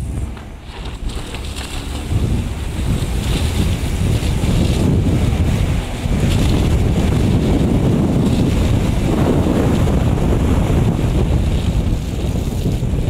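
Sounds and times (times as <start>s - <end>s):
car engine rumble: 0.0s - 13.0s
tyres on snow: 0.0s - 13.0s
wind noise on microphone: 0.0s - 13.0s.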